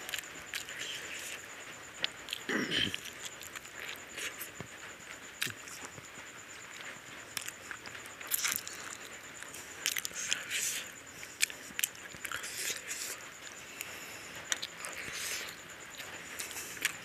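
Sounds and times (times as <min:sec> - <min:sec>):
lip smacks and chewing: 0:00.0 - 0:01.4, 0:02.0 - 0:04.7, 0:05.4 - 0:06.0, 0:06.8 - 0:17.0.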